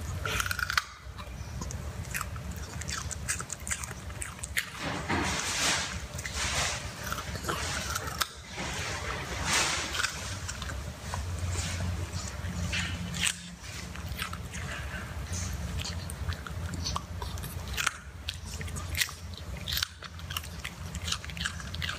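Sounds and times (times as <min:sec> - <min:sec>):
puppy crunching a carrot: 0:00.0 - 0:21.9.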